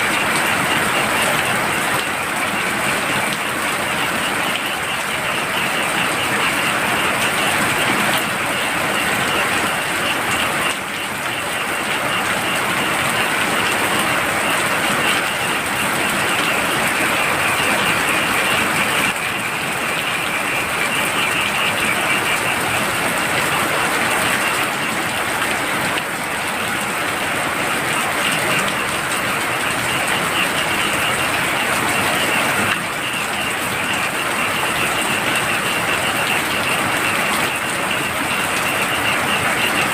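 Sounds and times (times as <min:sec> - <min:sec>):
frogs trilling: 0:00.0 - 0:39.9
heavy rain: 0:00.0 - 0:39.9.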